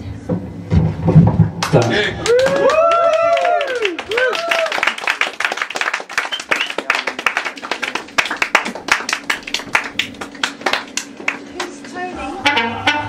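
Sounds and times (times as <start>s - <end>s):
small audience clapping: 1.6s - 12.1s.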